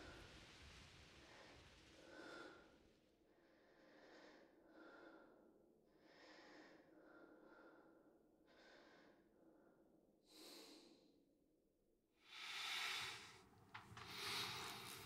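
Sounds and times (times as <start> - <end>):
soft slow breathing: 0.0 - 11.1, 12.2 - 15.0.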